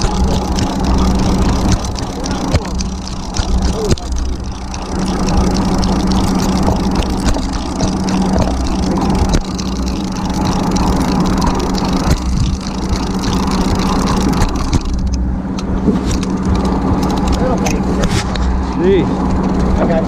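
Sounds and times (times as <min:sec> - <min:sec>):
small clicks and knocks: 0:00.0 - 0:18.4
boat engine humming: 0:00.0 - 0:20.0
noisy rush: 0:00.0 - 0:20.0.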